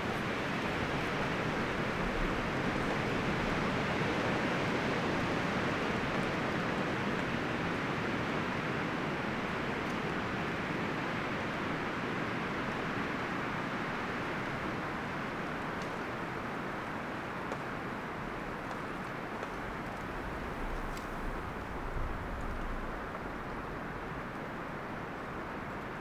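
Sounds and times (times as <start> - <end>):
wind rustling through trees: 0.0 - 26.0.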